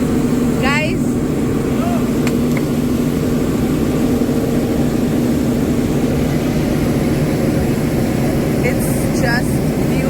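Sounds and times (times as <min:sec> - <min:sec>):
boat engines droning: 0:00.0 - 0:10.0.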